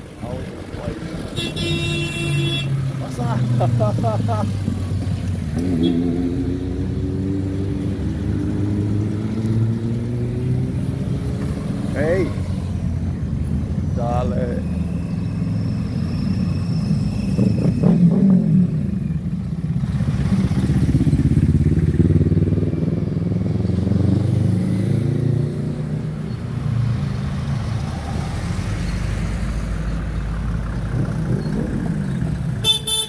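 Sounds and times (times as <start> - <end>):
classic car engines driving past: 0.0 - 33.0.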